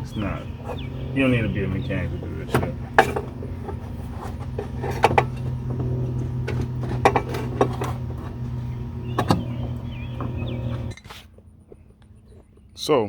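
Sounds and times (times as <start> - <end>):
car parts clicking and knocking: 0.0 - 12.9
steady low hum: 0.0 - 13.0.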